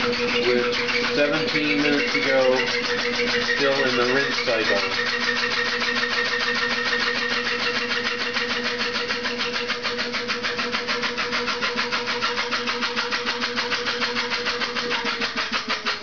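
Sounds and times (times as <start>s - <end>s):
rapid rubbing pulse: 0.0s - 16.0s
washing machine squealing: 0.0s - 16.0s.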